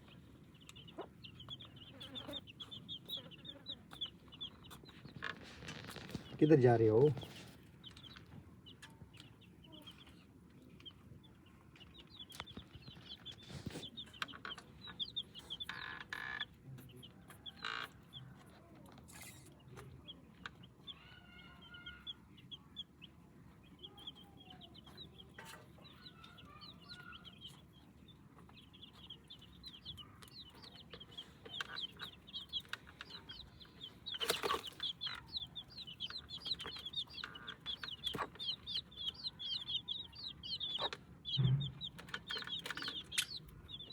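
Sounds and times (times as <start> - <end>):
chicks peeping: 0.0 - 43.9
hen clucking: 0.0 - 43.9.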